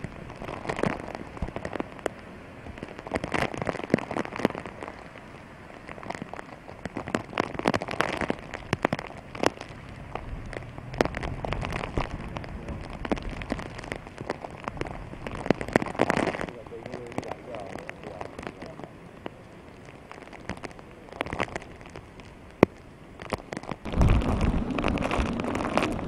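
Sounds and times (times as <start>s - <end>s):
heavy rain falling: 0.0s - 26.0s
low rumble: 0.0s - 26.0s.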